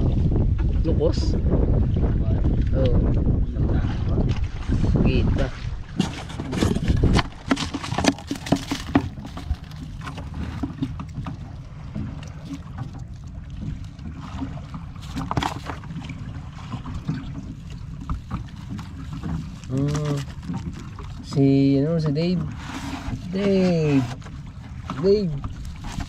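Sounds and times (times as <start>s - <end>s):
water splashing against boat: 0.0s - 26.0s
wind rumble on microphone: 0.0s - 26.0s.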